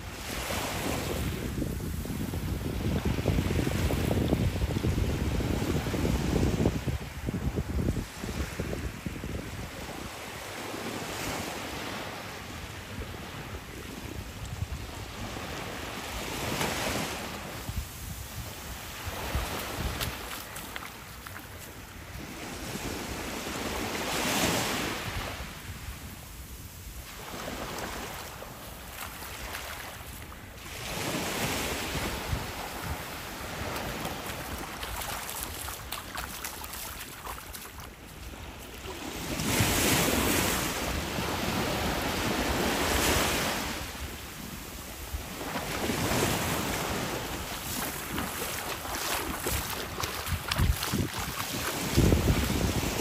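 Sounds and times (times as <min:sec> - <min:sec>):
waves lapping on sand: 0:00.0 - 0:53.0
wind rumbling on microphone: 0:00.0 - 0:53.0.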